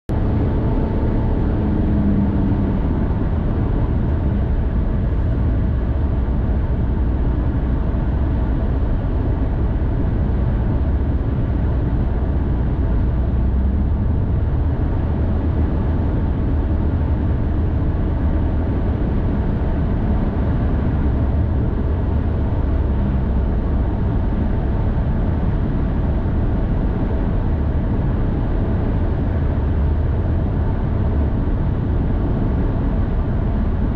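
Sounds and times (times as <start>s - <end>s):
vehicle engine and road noise: 0.1s - 33.9s.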